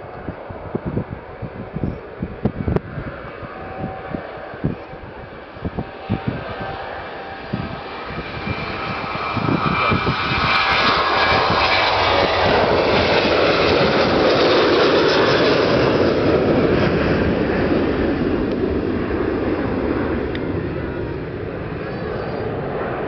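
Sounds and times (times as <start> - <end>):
jet engines taking off: 0.0 - 23.0.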